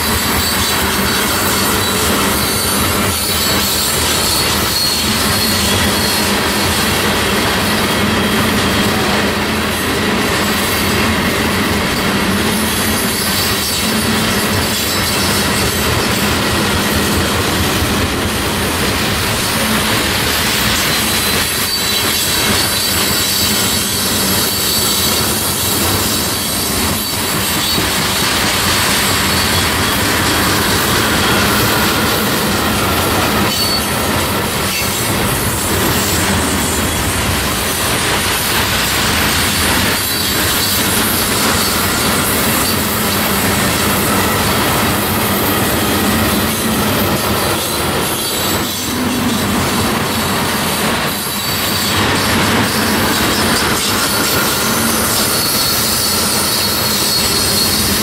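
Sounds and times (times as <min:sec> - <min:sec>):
high wheel squeal: 0:00.0 - 0:58.0
railroad cars rolling past: 0:00.0 - 0:58.0.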